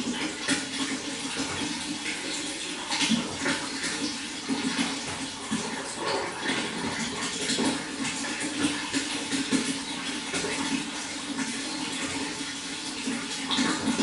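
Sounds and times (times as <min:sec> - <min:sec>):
running water splashing: 0:00.0 - 0:14.0.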